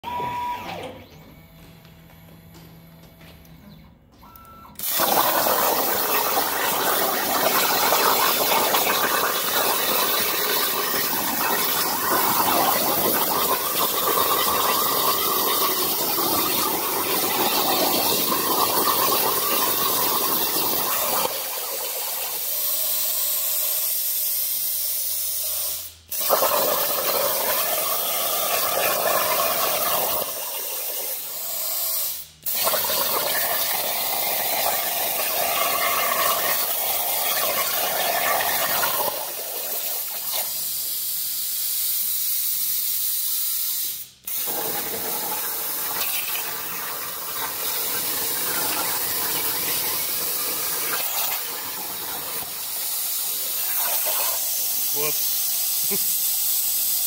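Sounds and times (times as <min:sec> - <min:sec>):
plasma torch hissing: 0:04.8 - 0:57.0.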